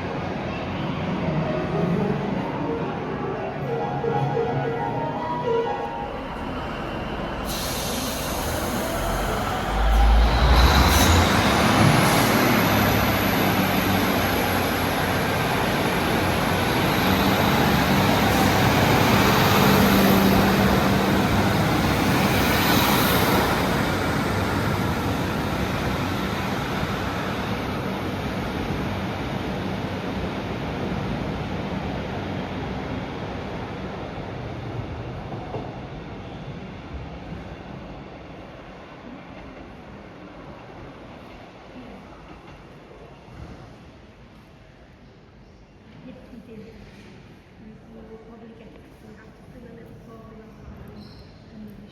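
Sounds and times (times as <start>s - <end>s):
train passing: 0.0s - 45.0s.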